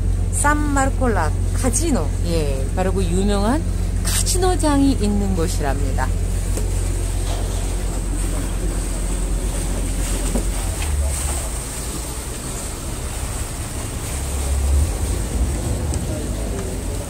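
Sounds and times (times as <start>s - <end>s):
boat engine rumble: 0.0s - 17.0s
water rushing past hull: 0.0s - 17.0s.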